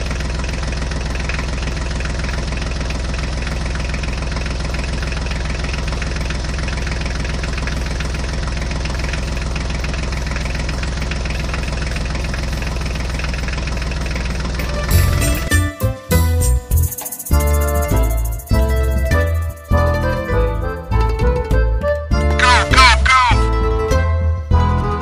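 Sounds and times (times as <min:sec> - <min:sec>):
tractor engine idling: 0:00.0 - 0:24.9.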